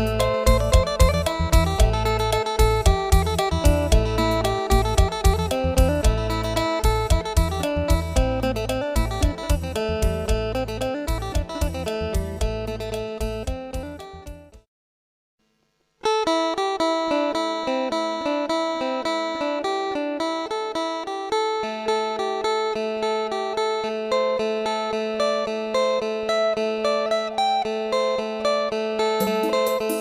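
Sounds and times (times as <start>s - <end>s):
plucked lute melody: 0.0s - 14.6s, 16.3s - 30.0s.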